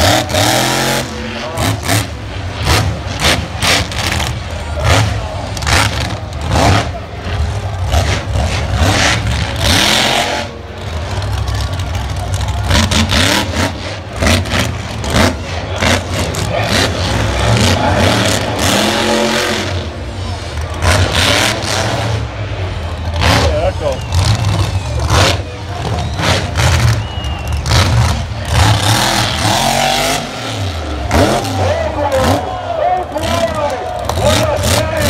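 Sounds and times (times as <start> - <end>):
truck engine revving hard: 0.0 - 35.0.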